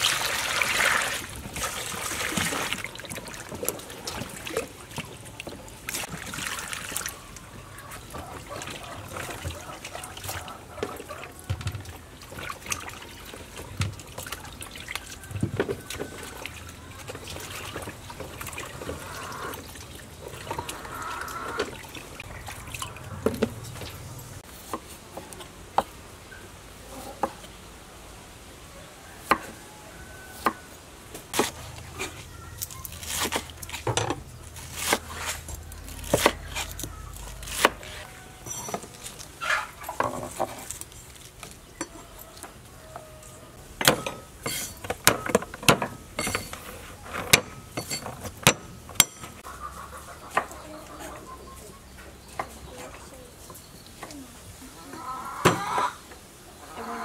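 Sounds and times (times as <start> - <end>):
water sloshing and trickling: 0.0 - 26.0, 31.2 - 54.7.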